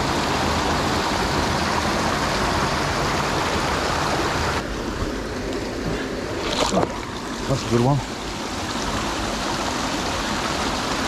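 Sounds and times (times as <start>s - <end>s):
flowing stream: 0.0s - 11.0s.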